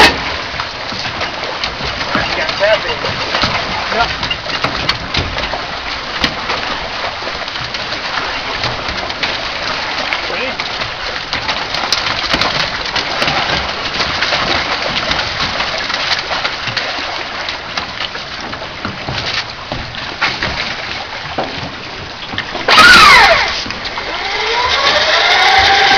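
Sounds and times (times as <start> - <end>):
fish thrashing and splashing: 0.0 - 25.9.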